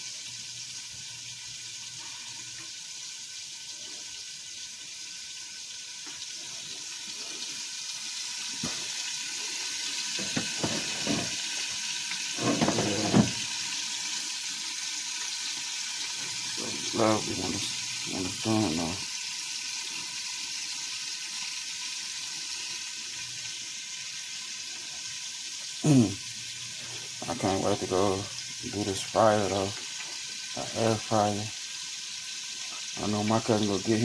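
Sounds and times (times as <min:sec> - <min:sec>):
liver sizzling in a pan: 0:00.0 - 0:34.0.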